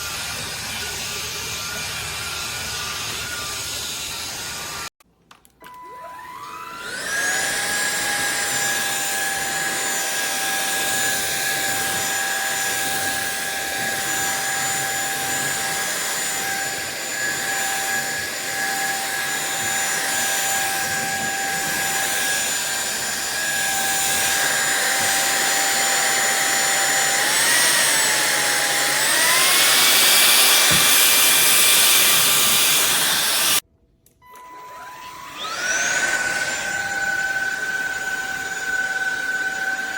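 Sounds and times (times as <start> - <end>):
vacuum cleaner motor whining: 0.0 - 4.9, 5.7 - 33.6, 34.2 - 39.9.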